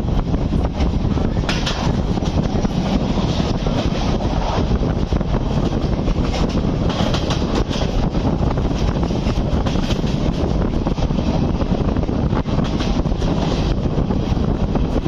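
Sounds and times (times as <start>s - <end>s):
train wheels running on rails: 0.0s - 15.0s
wind buffeting microphone: 0.0s - 15.0s.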